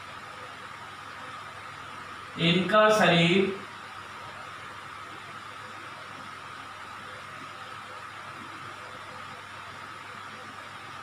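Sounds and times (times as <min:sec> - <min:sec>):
faint constant whine: 0:00.0 - 0:11.0
steady background hiss: 0:00.0 - 0:11.0.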